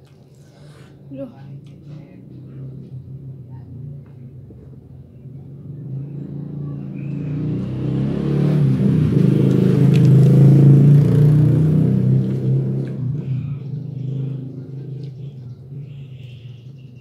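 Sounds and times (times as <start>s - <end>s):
vehicle engine passing by: 0.8s - 17.0s.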